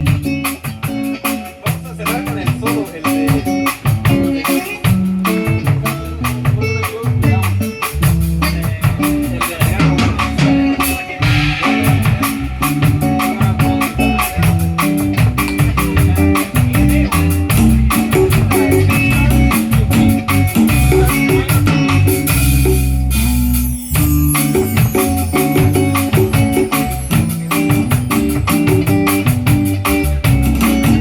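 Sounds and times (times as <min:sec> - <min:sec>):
bass line: 0:00.0 - 0:31.0
drum kit beat: 0:00.0 - 0:31.0
live band playing: 0:00.0 - 0:31.0.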